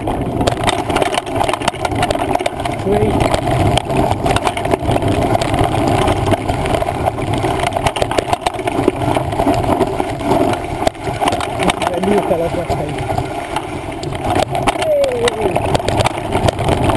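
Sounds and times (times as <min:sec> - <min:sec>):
bike tyres rumbling on trail: 0:00.0 - 0:16.9
wind on camera: 0:00.0 - 0:16.9.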